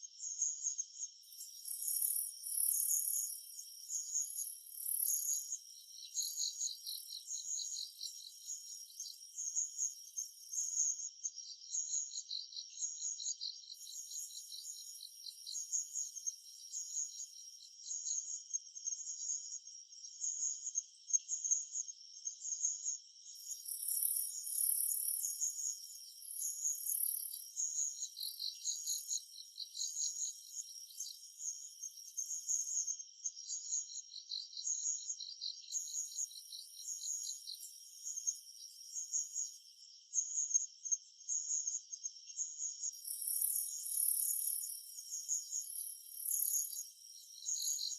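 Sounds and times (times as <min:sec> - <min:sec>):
insect pulsed chirping: 0:01.2 - 0:17.7, 0:23.4 - 0:40.6, 0:42.0 - 0:47.9.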